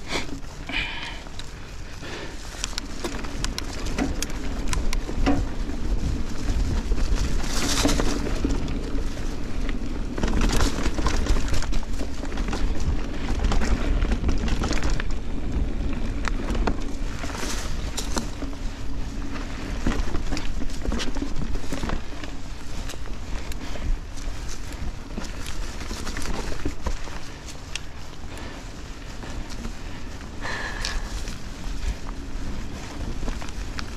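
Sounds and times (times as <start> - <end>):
bike clicks and rattles: 0.0 - 33.9
bike tyre rumble on dirt: 0.0 - 33.9
wind on microphone: 3.1 - 33.9.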